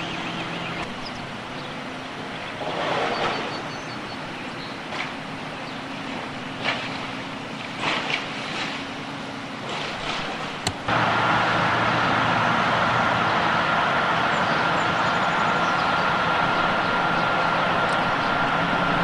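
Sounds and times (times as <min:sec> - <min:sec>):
engine running with high whine: 0:00.0 - 0:19.0
vehicles outdoors: 0:00.0 - 0:19.0.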